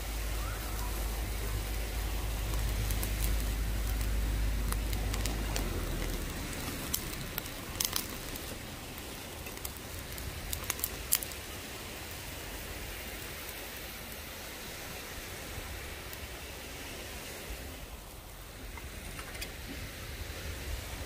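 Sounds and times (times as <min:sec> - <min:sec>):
fire crackles and pops: 0:00.0 - 0:21.0
steak sizzling over fire: 0:00.0 - 0:21.0.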